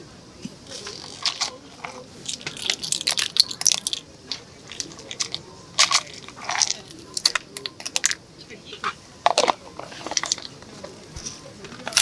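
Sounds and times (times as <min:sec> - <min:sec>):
crisp crunching and crackling: 0:00.6 - 0:08.2, 0:08.8 - 0:12.0.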